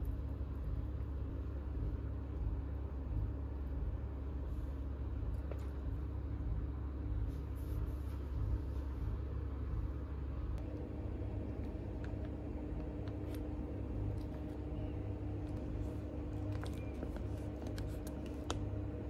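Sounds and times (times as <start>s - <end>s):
faint steady hum: 0.0s - 19.0s
low background rumble: 0.0s - 19.0s.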